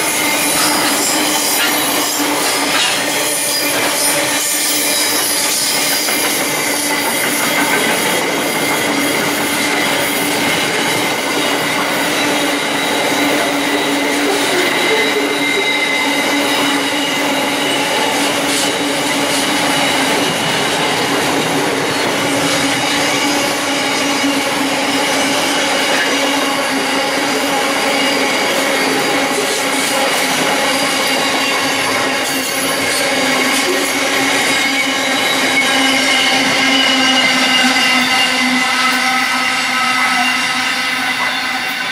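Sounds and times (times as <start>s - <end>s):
train wheels on rail: 0.0s - 41.9s
wheels squealing: 0.1s - 41.9s.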